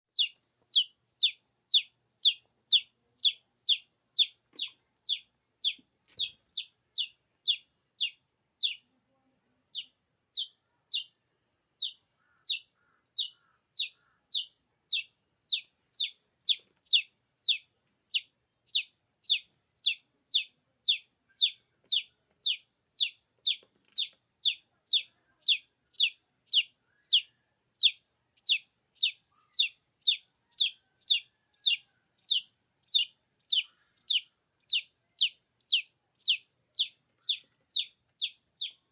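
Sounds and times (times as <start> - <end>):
chick peeping: 0.1 - 8.9, 9.6 - 38.9.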